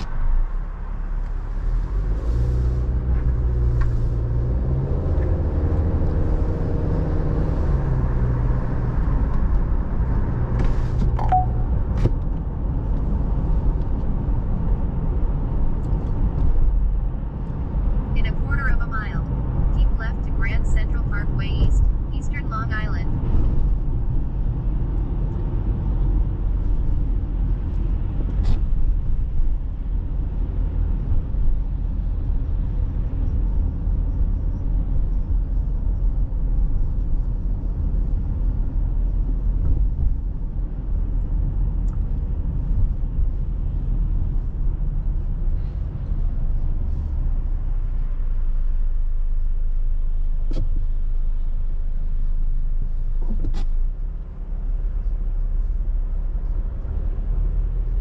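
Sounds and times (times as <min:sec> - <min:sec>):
road and wind noise: 0:00.0 - 0:58.0
vehicle rumble: 0:00.0 - 0:58.0.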